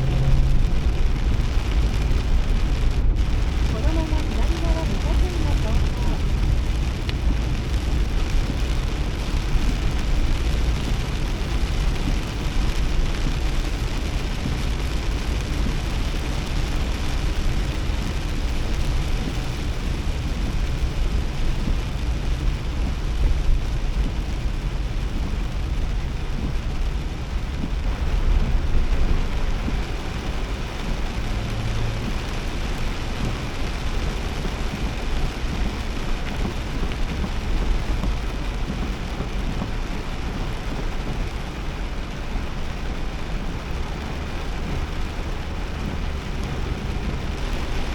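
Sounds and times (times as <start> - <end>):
heavy rain drumming on car: 0.0 - 47.9
road and tyre rumble: 0.0 - 47.9.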